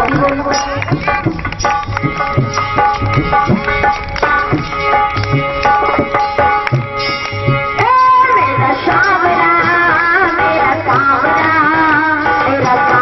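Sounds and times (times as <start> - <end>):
tabla playing a steady rhythm: 0.0 - 13.0.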